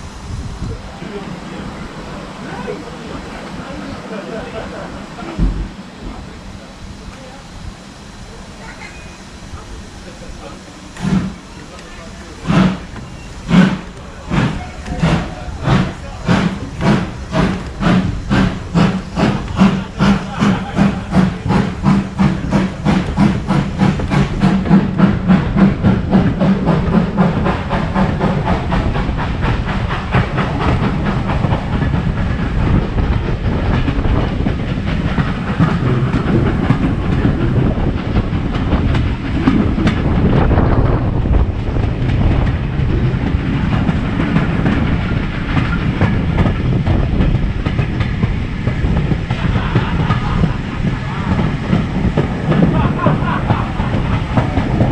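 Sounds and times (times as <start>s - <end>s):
steam locomotive chuffing: 0.0s - 54.9s.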